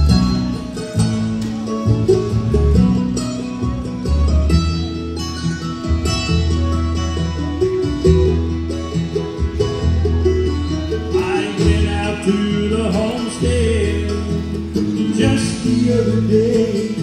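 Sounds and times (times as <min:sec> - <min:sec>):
bluegrass band playing: 0:00.0 - 0:17.0
picked banjo: 0:00.0 - 0:17.0.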